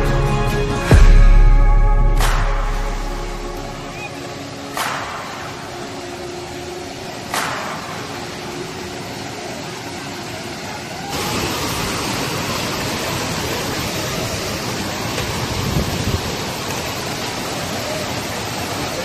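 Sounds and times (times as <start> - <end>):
steady rushing noise: 0.8 - 19.0.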